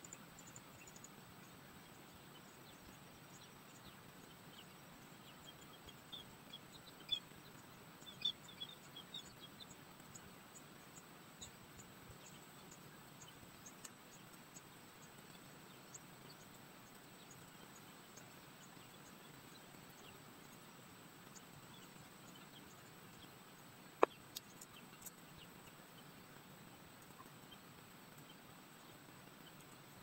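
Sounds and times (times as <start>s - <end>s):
faint background hiss: 0.0s - 30.0s
faint ticks: 0.0s - 30.0s.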